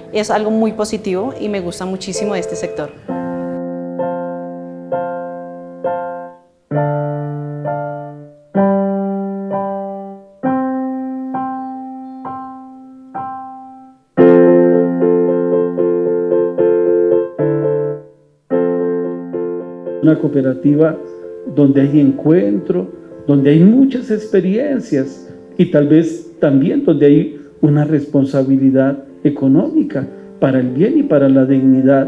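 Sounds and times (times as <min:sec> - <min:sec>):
electronic keyboard piano chords: 0:00.0 - 0:32.0.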